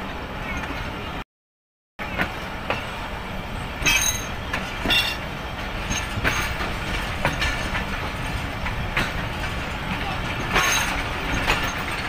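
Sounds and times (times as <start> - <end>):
train wheels rumbling on track: 0.0 - 1.2, 2.0 - 12.0.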